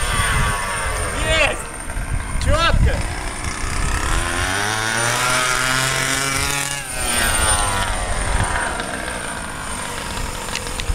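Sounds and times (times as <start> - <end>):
small two-stroke engine running: 0.0 - 10.9.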